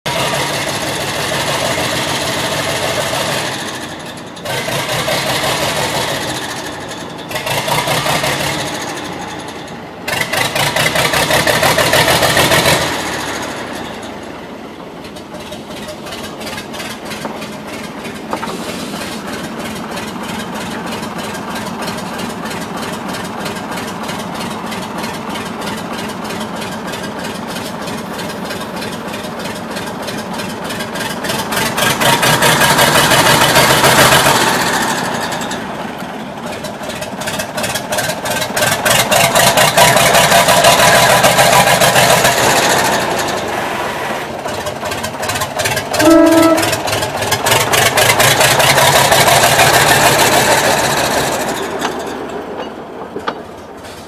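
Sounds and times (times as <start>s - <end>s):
diesel locomotive engine revving: 0.0s - 54.0s.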